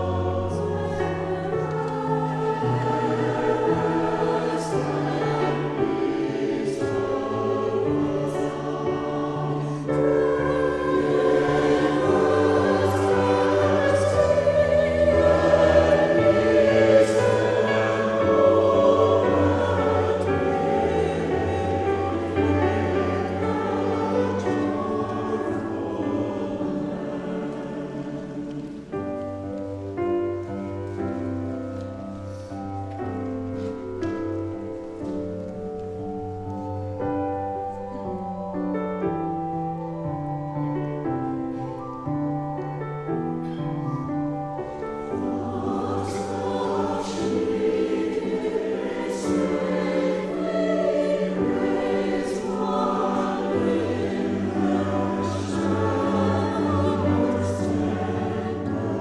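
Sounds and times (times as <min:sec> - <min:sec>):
choir singing with accompaniment: 0:00.0 - 0:59.0.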